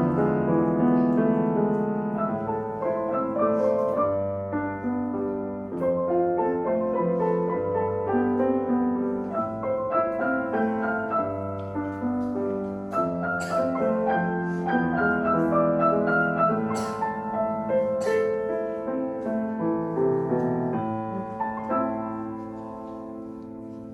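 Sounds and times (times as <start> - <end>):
solo piano playing: 0.0 - 23.9.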